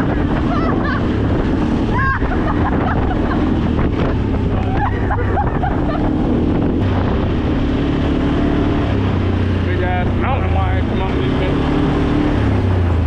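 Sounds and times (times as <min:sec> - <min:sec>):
atv engine running: 0:00.0 - 0:13.0
wind rumble on microphone: 0:00.0 - 0:13.0.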